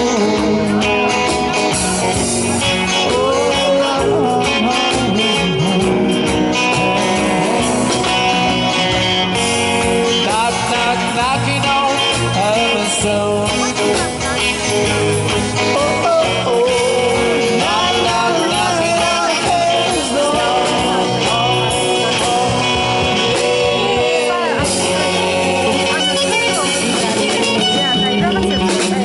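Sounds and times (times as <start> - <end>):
bass: 0.0 - 29.0
drum beat: 0.0 - 29.0
guitar melody with bending notes: 0.0 - 29.0.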